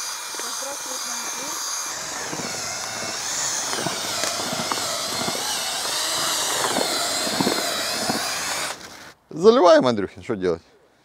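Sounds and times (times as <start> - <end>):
electric drill mixer whine: 0.0 - 9.2.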